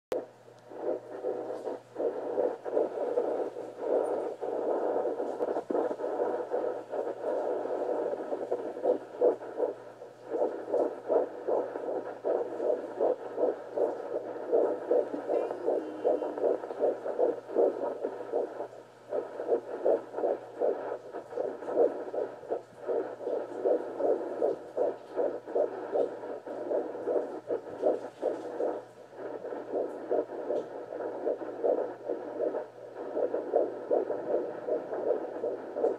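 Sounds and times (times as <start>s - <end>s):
steady low hum: 0.1s - 35.9s
whooshing fetal heartbeat: 0.1s - 35.9s.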